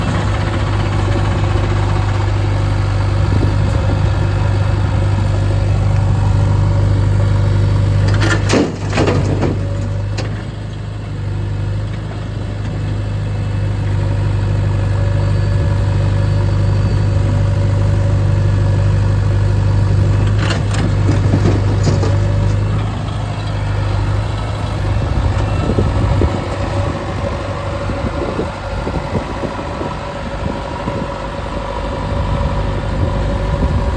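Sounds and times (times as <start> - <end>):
diesel engines running: 0.0 - 33.9.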